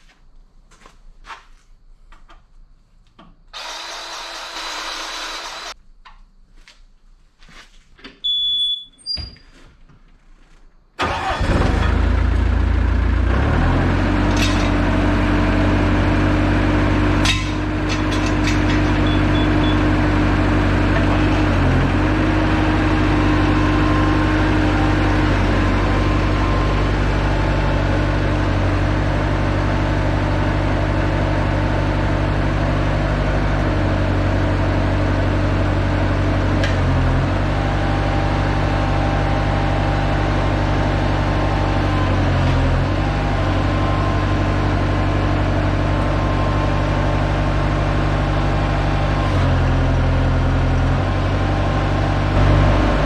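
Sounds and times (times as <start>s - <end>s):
diesel engine cranking and running: 3.6s - 5.8s, 11.0s - 53.0s.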